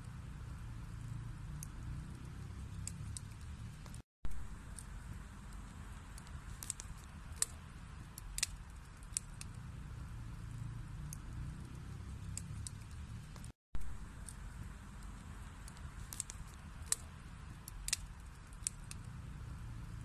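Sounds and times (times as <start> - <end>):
burning logs crackling and popping: 0.0 - 20.0
fire flame rumble: 0.0 - 20.0.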